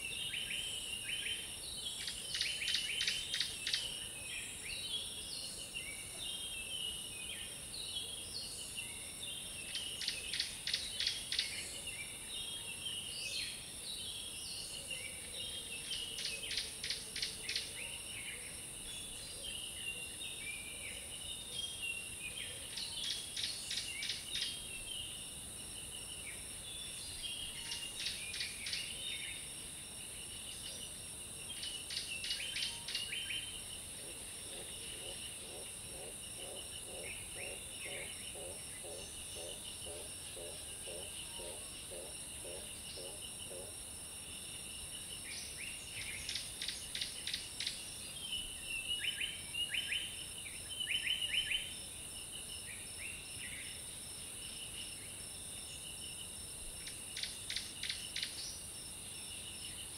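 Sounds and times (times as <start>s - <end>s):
high insect drone: 0.0s - 59.9s
insects chirping: 0.0s - 59.9s.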